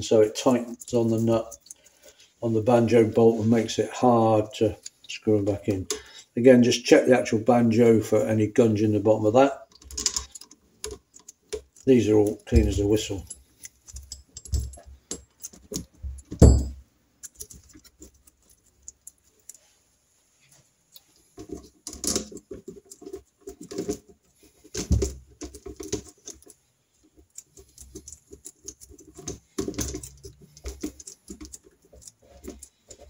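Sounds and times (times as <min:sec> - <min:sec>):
small metal clicks and rattles: 0:00.0 - 0:03.8, 0:04.4 - 0:06.2, 0:09.1 - 0:19.8, 0:20.5 - 0:33.0.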